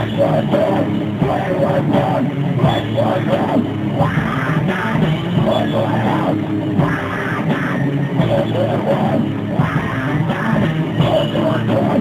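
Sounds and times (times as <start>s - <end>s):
distorted electric guitars: 0.0s - 12.0s
drums: 0.0s - 12.0s.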